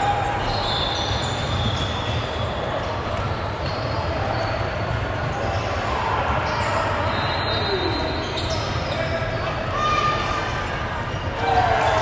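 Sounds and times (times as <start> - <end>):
players and spectators voices: 0.0 - 12.0.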